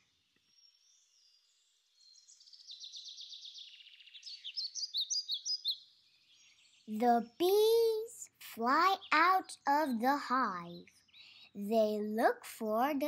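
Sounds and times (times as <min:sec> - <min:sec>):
high-pitched bird chirps and trills: 0:02.0 - 0:13.0.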